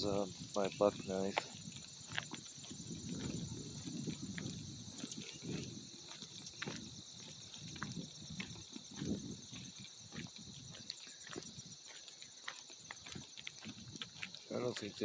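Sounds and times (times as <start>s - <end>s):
crickets chirring: 0.0s - 15.0s
footsteps crunching dry leaves: 0.0s - 15.0s.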